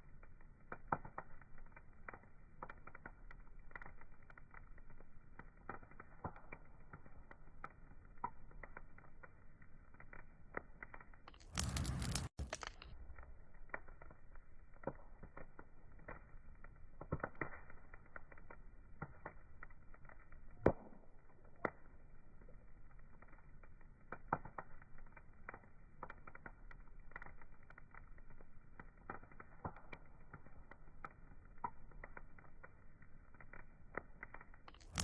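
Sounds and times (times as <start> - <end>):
burning wood crackling: 0.0 - 35.0.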